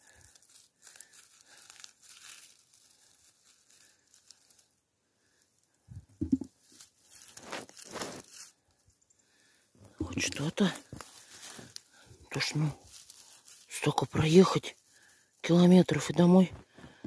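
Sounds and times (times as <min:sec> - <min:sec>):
undergrowth rustling and crackling: 0:00.0 - 0:17.0.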